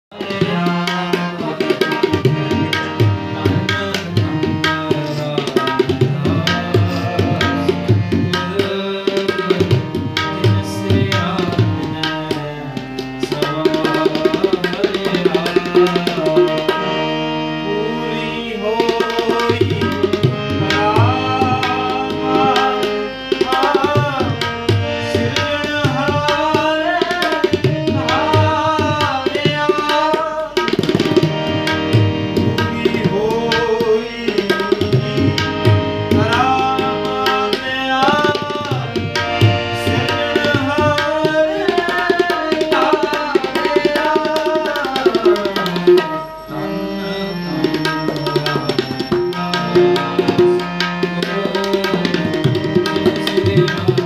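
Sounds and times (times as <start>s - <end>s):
man singing: 0.1s - 17.0s, 17.6s - 54.0s
harmonium chords: 0.1s - 54.0s
tabla rhythm: 0.1s - 54.0s.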